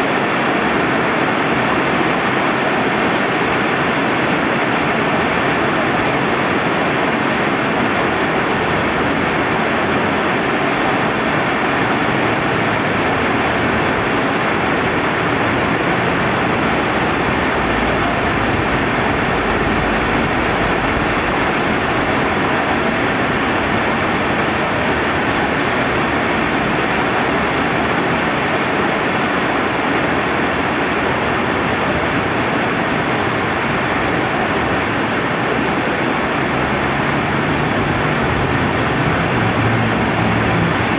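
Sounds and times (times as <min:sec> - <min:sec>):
flowing river water: 0:00.0 - 0:40.9
heavy rain: 0:00.0 - 0:40.9.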